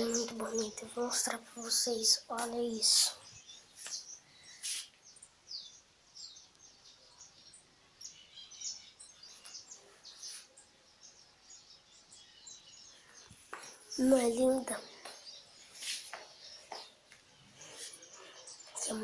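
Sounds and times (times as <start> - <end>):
background hiss: 0.0 - 19.0
birds chirping: 0.0 - 19.0.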